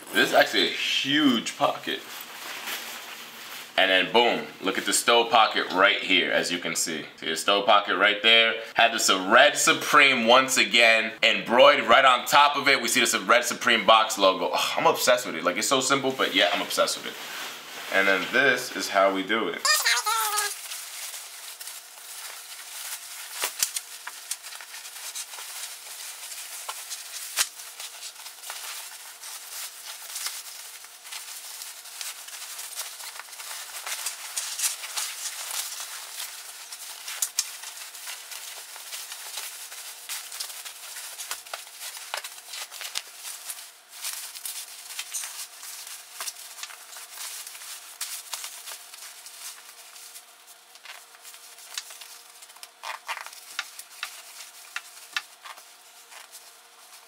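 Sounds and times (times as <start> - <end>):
nylon jacket rustling and crinkling: 0.1 - 6.0, 14.9 - 18.9, 19.7 - 57.0.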